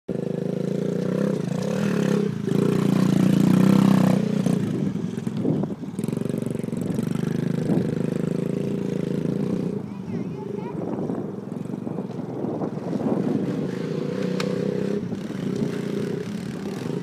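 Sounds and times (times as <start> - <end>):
dirt bike engine revving: 0.1 - 17.0.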